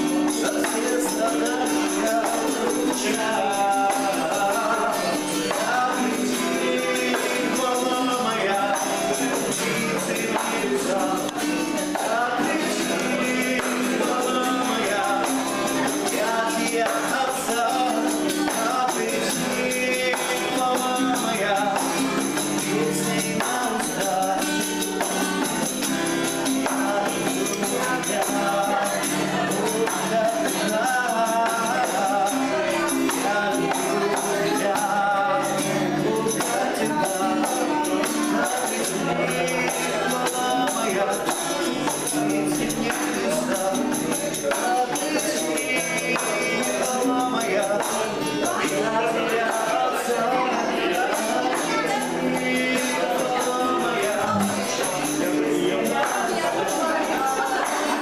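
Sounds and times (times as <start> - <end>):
tambourine jingling: 0.0 - 58.0.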